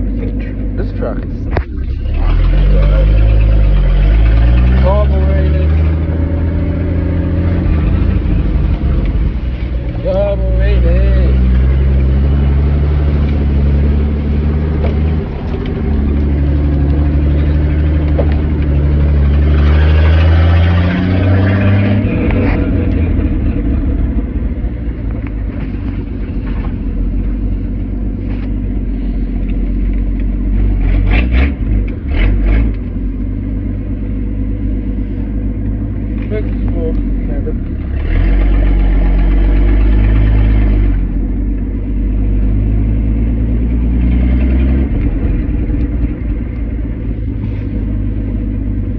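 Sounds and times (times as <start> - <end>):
truck engine droning: 0.0 - 48.9.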